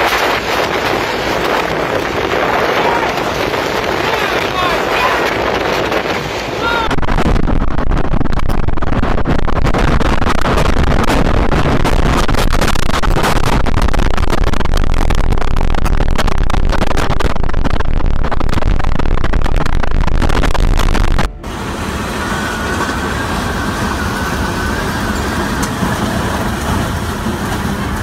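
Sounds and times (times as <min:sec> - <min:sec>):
tornado winds roaring: 0:00.0 - 0:28.0.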